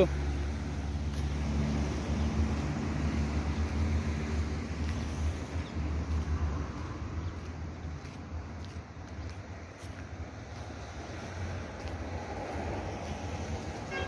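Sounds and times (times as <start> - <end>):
road traffic passing: 0.0 - 14.0.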